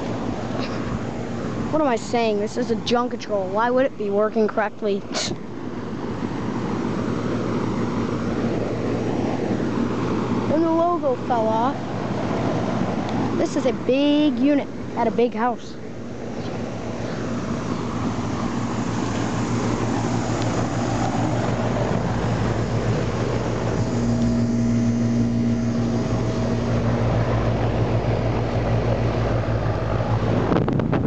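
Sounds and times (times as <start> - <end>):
compressor low hum: 0.0 - 31.0
condenser fan rushing air: 0.0 - 31.0.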